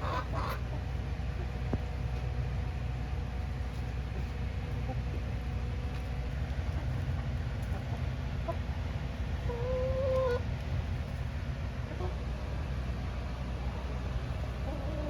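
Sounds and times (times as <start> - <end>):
hens clucking softly: 0.0 - 2.3, 3.7 - 15.0
steady low rumble: 0.0 - 15.0.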